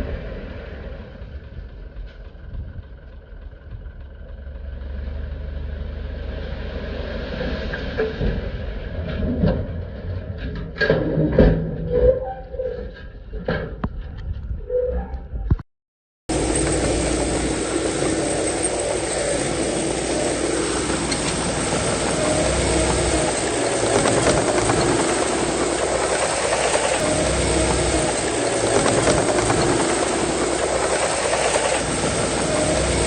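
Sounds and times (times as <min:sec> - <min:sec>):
heavy diesel machinery running: 0:00.0 - 0:09.9, 0:16.3 - 0:33.0.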